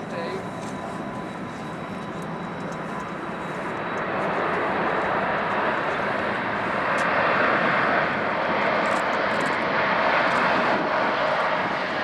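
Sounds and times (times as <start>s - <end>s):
airliner engines rushing: 0.0s - 12.0s
faint engine whine: 0.0s - 12.0s.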